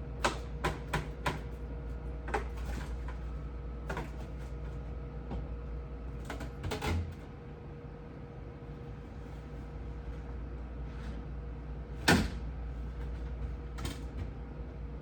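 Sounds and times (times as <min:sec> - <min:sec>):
refrigerator hum: 0:00.0 - 0:15.0.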